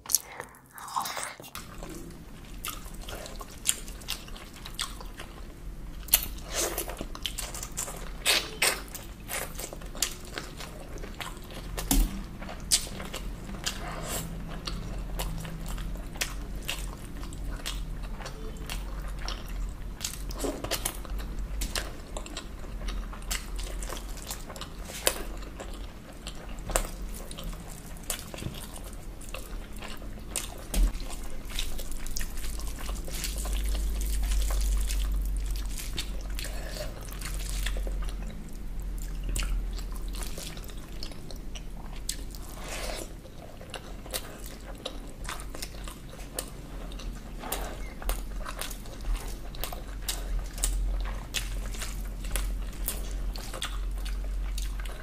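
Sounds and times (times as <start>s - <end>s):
wet chewing and lip-smacking: 0.0s - 55.0s.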